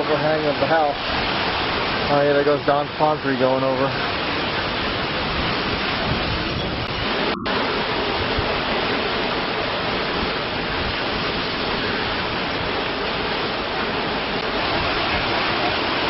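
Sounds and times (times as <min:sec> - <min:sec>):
heavy rain: 0:00.0 - 0:16.0
strong wind: 0:00.0 - 0:16.0.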